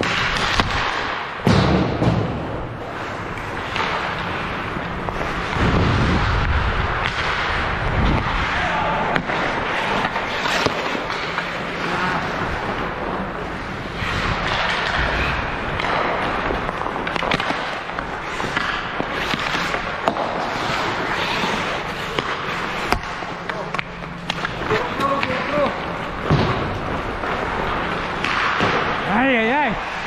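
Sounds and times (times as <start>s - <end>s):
skates scraping ice: 0.0s - 1.3s, 2.8s - 30.0s
hockey sticks and puck clacking: 0.0s - 5.7s, 6.3s - 30.0s.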